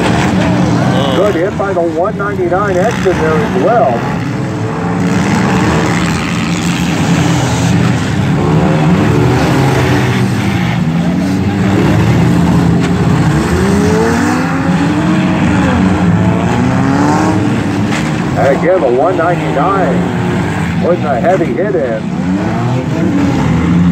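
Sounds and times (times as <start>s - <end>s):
car engines revving: 0.0s - 23.9s.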